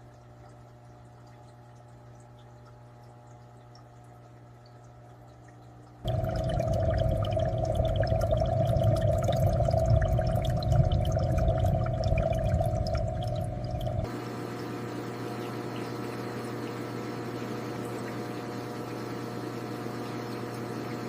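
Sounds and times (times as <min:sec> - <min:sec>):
aquarium water pouring and bubbling: 0:00.0 - 0:21.0.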